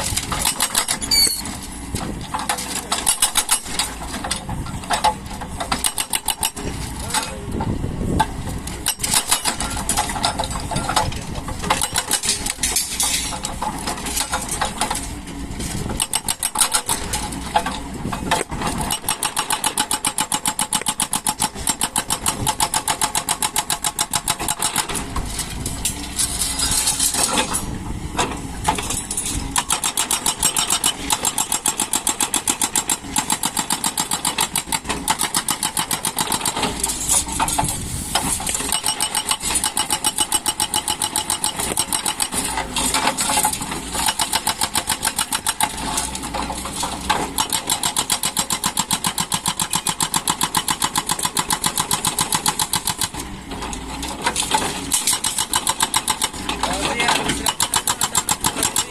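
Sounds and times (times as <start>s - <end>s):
excavator diesel engine chugging: 0.0s - 58.9s.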